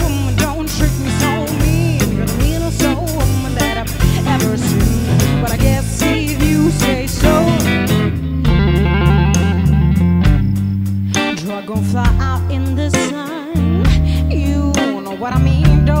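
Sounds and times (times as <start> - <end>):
rock music with guitar and bass: 0.0 - 16.0.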